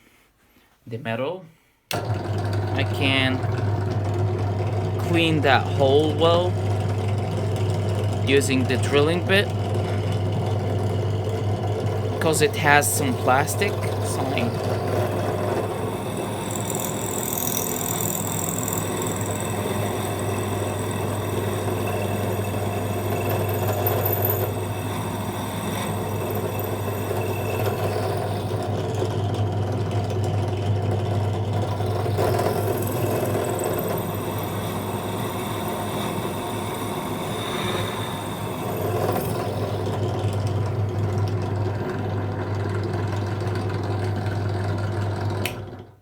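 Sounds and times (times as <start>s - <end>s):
drill press motor hum: 1.9s - 46.0s.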